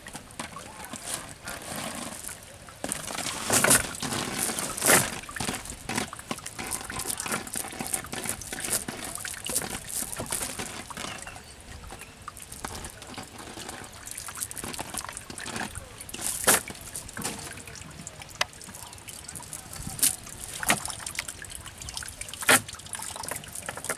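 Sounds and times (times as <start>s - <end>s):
water splashing: 0.0s - 23.9s.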